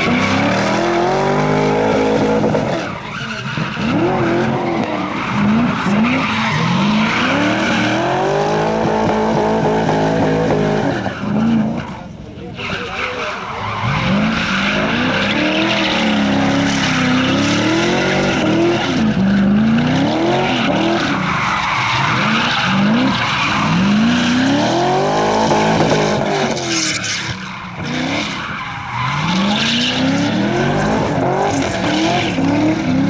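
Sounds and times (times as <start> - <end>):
car engine revving hard: 0.0 - 11.8, 13.8 - 33.0
tyres screeching on tarmac: 0.0 - 33.0.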